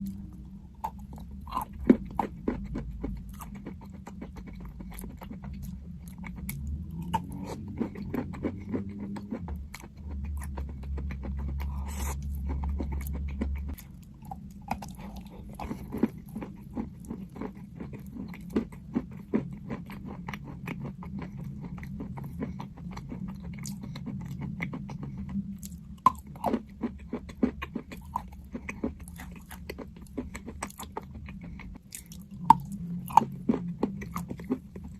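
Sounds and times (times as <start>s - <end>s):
chalk being chewed crunchily: 0.0s - 34.9s
low steady rumble: 0.0s - 34.9s.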